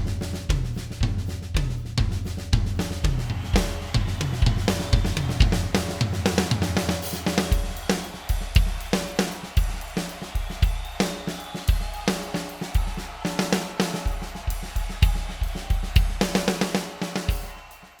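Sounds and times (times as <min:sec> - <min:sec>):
snare and tom fills: 0:00.0 - 0:18.0.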